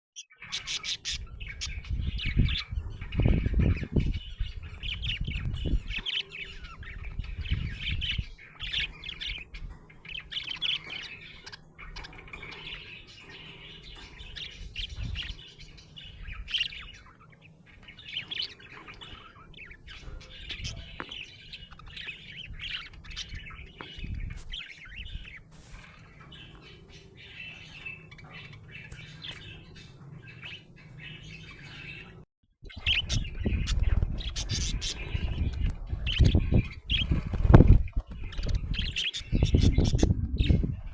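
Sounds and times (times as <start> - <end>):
budgerigar chirping and chattering: 0.2 - 40.9.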